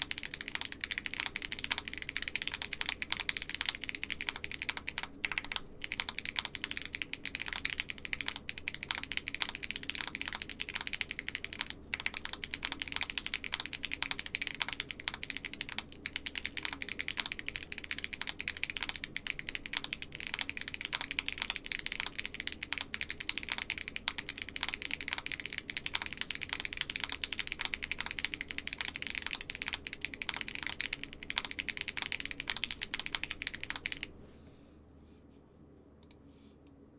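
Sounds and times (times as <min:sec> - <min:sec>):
mechanical keyboard typing: 0:00.0 - 0:34.1.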